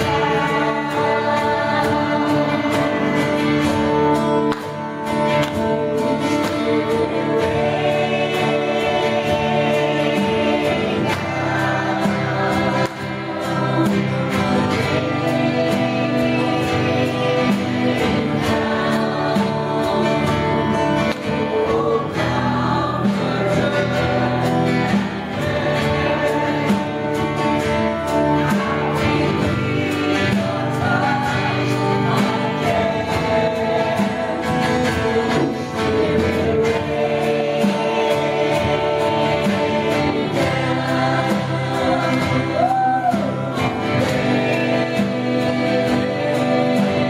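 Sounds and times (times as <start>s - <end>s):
band with guitar and cymbals: 0.0s - 47.0s
choir singing worship song: 0.0s - 47.0s.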